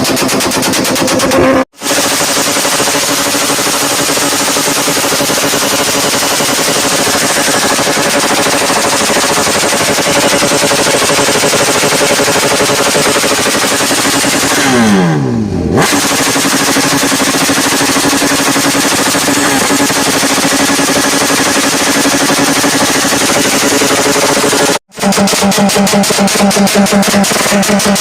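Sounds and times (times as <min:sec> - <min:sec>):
exhaust popping: 0:00.0 - 0:28.0
motorcycle engine revving: 0:00.0 - 0:28.0.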